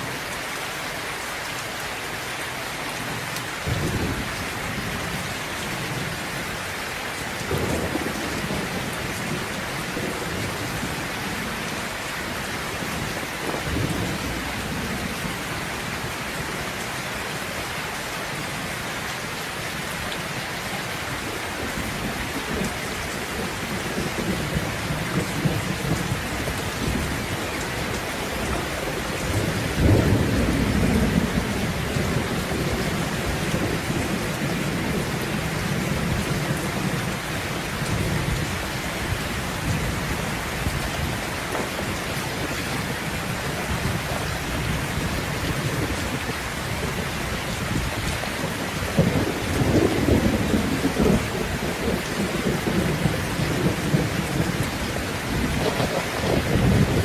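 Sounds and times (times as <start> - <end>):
steady rain: 0.0 - 57.0
low thunder rumbles: 3.0 - 17.8, 21.1 - 57.0.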